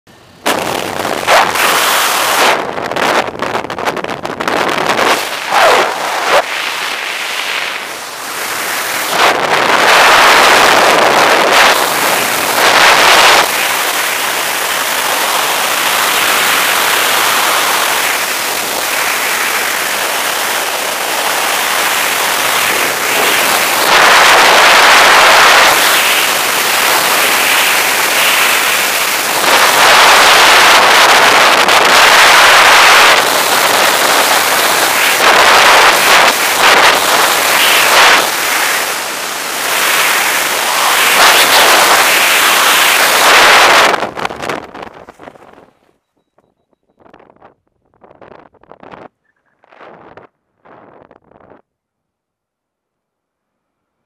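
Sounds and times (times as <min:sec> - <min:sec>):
wind rushing over microphone: 0:00.2 - 0:46.0, 0:46.9 - 0:51.6.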